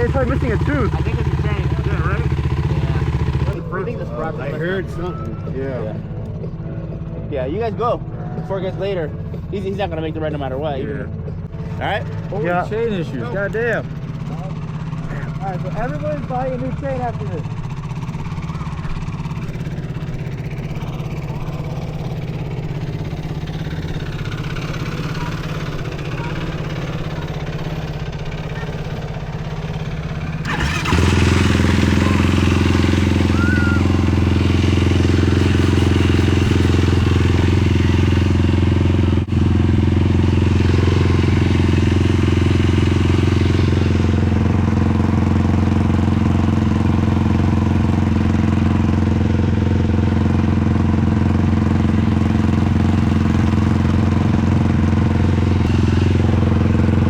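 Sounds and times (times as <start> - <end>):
loud engine close by: 0.0 - 57.0
quad engines idling: 0.0 - 57.0.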